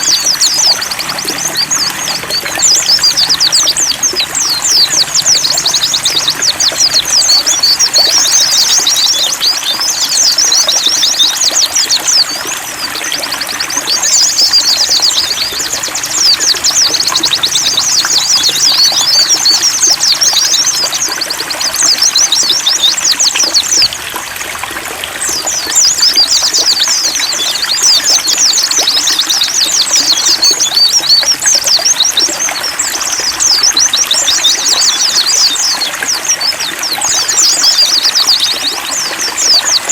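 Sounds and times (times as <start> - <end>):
high-pitched bird twittering: 0.0 - 24.0, 25.2 - 39.9
water trickling: 0.0 - 39.9.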